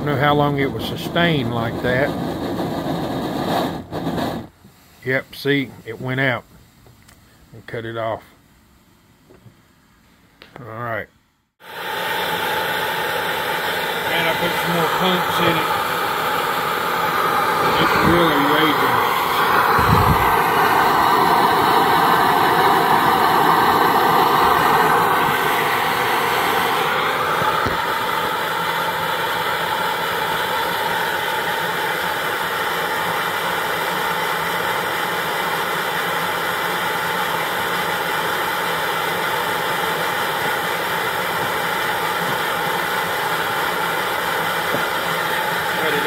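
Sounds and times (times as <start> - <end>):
stove burner roaring: 0.0 - 7.2, 11.6 - 46.0.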